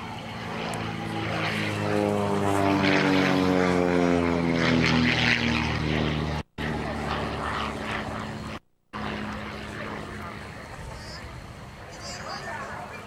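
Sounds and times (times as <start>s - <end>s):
propeller plane engine buzzing: 0.0s - 13.0s.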